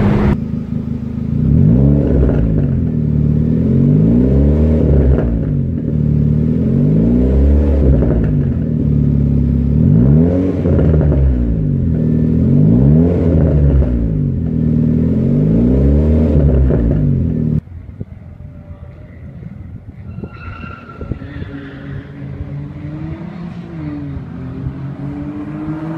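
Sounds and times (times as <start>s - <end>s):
car engine revving: 0.0s - 17.6s, 21.5s - 25.9s.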